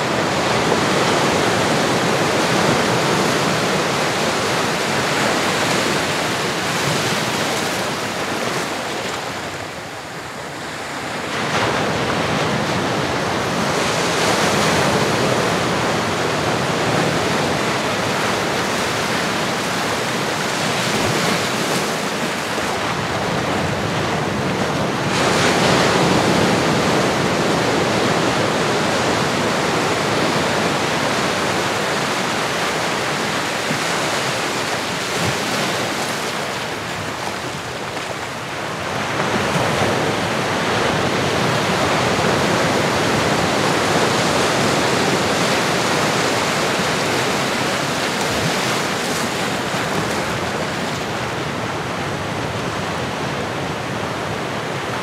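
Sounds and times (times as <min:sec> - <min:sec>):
ocean waves washing in: 0:00.0 - 0:55.0.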